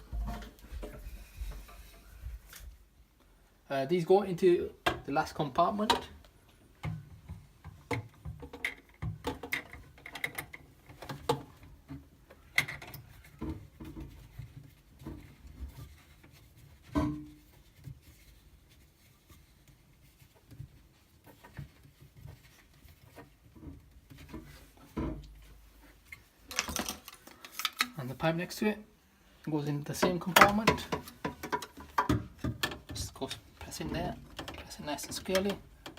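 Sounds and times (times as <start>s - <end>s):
plastic pipes clicking and knocking: 4.8s - 28.0s, 29.8s - 35.9s.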